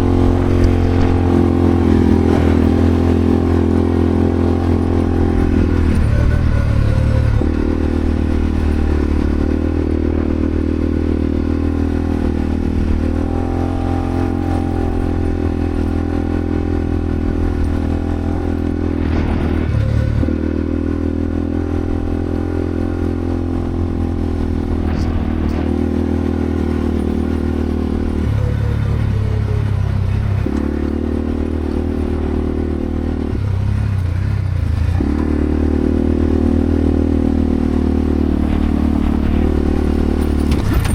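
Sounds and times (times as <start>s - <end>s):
clatter from rough track: 0.0s - 20.8s, 21.4s - 35.7s, 38.0s - 40.9s
quad bike engine running: 0.0s - 40.9s.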